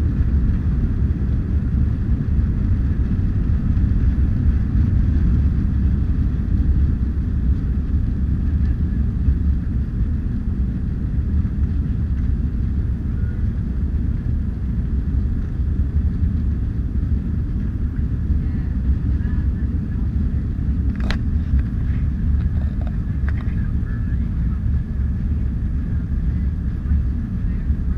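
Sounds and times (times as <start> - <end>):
jet engine and airflow rumble: 0.0 - 27.9.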